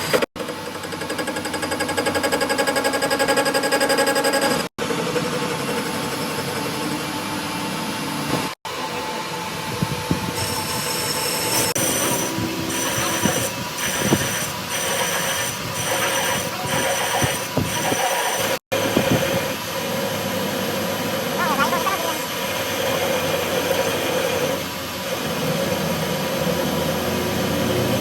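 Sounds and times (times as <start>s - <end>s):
metalworking machine grinding: 0.0s - 28.0s.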